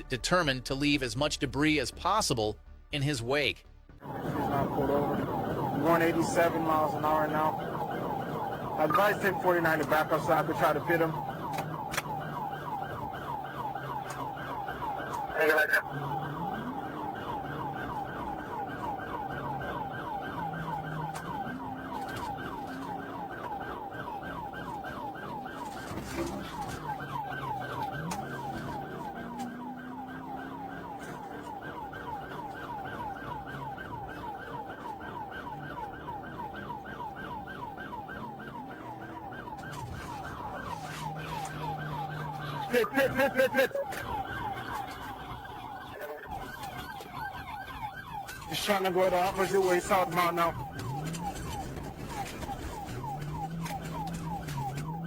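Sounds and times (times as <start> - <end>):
police siren yelping: 4.0 - 55.0
vehicle driving drone: 4.0 - 55.0.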